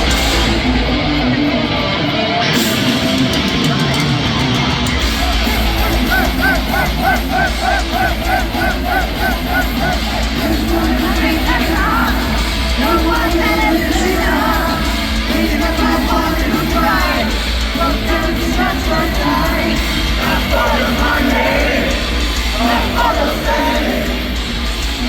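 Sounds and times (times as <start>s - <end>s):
crowd yelling and singing along: 0.0s - 25.0s
heavy metal band playing live: 0.0s - 25.0s.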